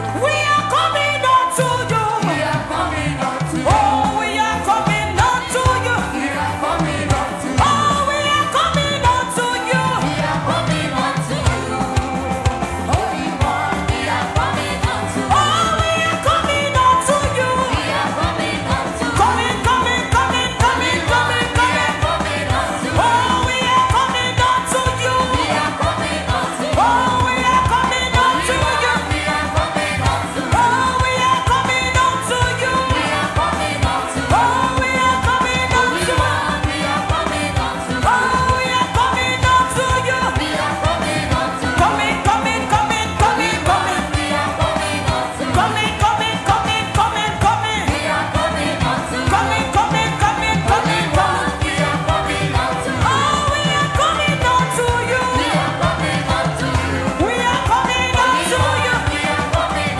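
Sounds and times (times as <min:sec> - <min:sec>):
band with steady beat: 0:00.0 - 0:59.9
voices singing gospel: 0:00.0 - 0:59.9.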